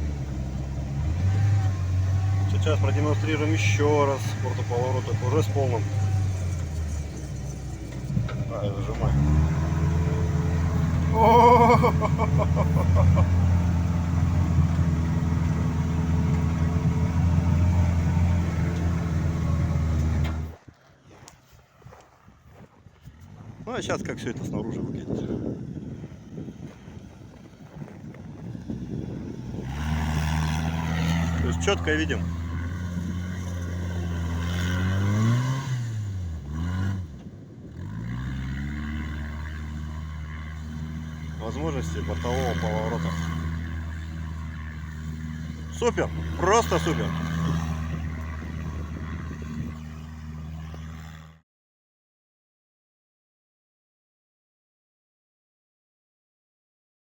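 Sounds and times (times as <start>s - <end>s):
vehicle engine droning under load: 0.0s - 51.4s.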